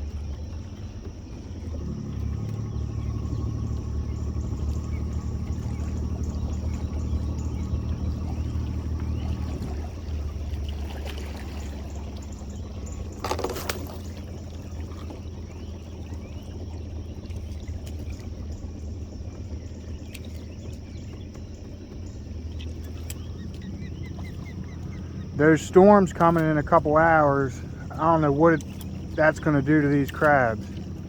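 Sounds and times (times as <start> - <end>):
boat motor humming: 0.0 - 31.0
water trickling and splashing: 0.0 - 31.0.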